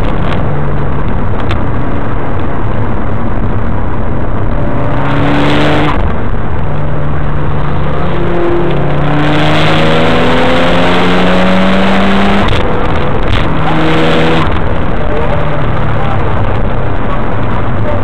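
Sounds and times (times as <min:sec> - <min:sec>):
car engine revving: 0:00.0 - 0:18.0
wind and road noise: 0:00.0 - 0:18.0.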